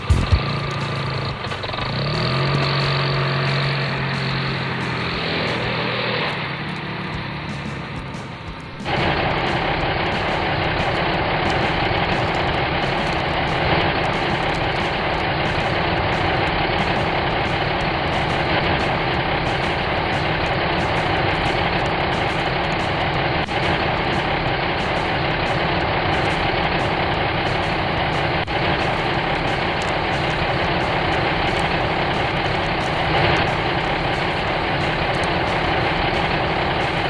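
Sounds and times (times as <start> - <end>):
heavy vehicle engine idling: 0.0 - 37.0.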